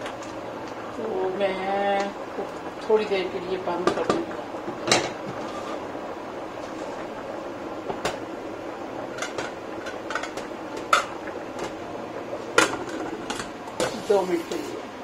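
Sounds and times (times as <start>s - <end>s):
lentils boiling in a pot: 0.0s - 15.0s.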